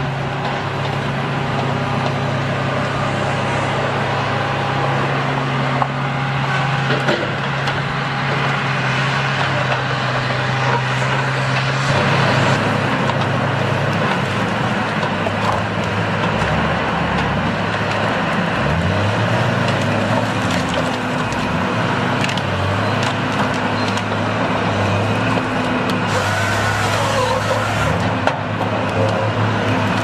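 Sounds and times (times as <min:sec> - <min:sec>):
machine engine running: 0:00.0 - 0:30.0
rough continuous noise: 0:00.0 - 0:30.0.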